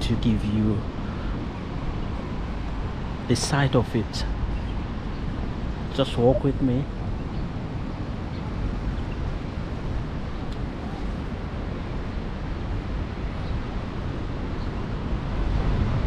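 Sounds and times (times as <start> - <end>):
wind buffeting microphone: 0.0 - 16.0
ocean surf: 0.1 - 16.0.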